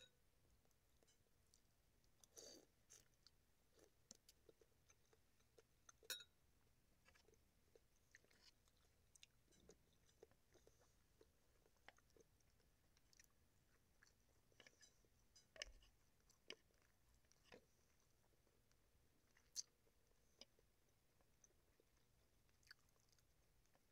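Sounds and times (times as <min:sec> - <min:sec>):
person chewing food: 0:00.6 - 0:23.9.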